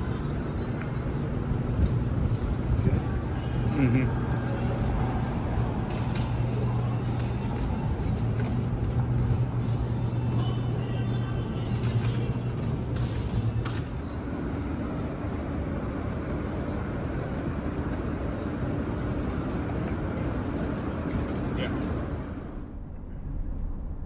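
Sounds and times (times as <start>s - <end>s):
city street traffic noise: 0.0s - 24.0s
low engine hum: 0.0s - 24.0s.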